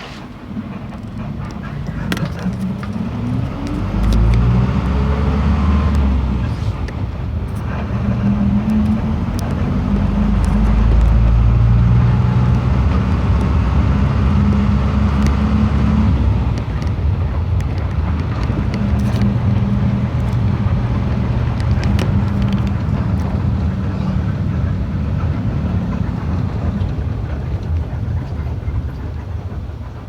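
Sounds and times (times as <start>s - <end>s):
vehicle engine accelerating: 0.0s - 29.5s
heavy road rumble: 0.0s - 30.0s.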